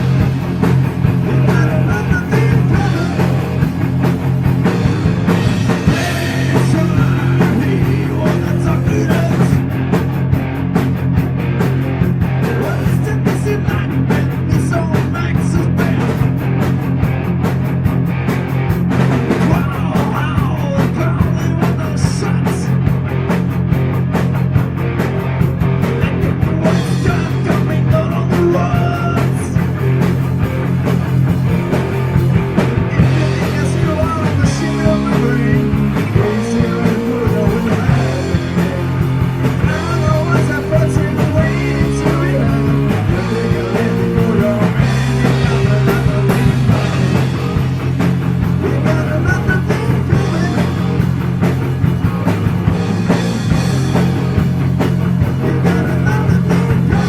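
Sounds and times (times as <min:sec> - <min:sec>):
bass and drums: 0:00.0 - 0:57.0
distorted electric guitars: 0:00.0 - 0:57.0.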